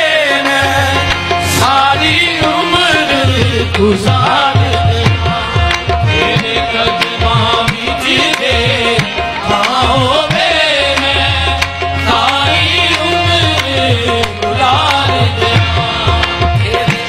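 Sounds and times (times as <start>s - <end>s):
harmonium held tones: 0.0s - 17.0s
tabla drumming: 0.0s - 17.0s.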